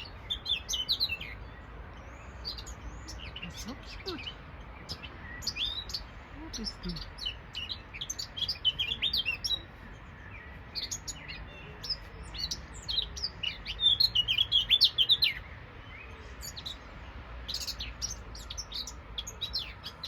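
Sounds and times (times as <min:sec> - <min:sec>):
songbird chirping and trilling: 0:00.0 - 0:20.0.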